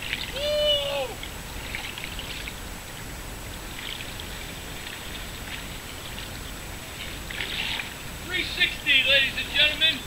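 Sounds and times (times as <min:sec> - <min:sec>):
canoe paddle swishing water: 0:00.0 - 0:09.6.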